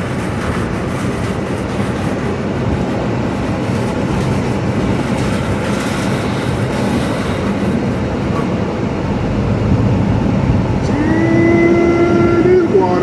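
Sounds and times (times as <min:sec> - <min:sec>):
tyres on flooded road: 0:00.0 - 0:13.0
vehicle engine rumbling: 0:00.0 - 0:13.0.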